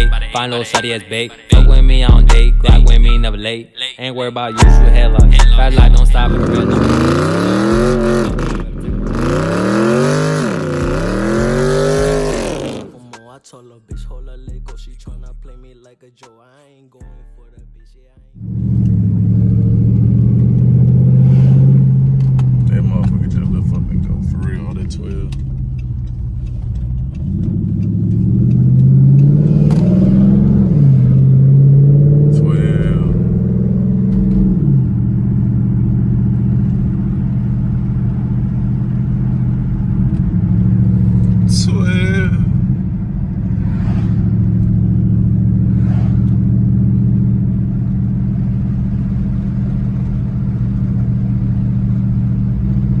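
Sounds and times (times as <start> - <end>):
car engine accelerating: 4.6 - 13.1, 18.4 - 53.0.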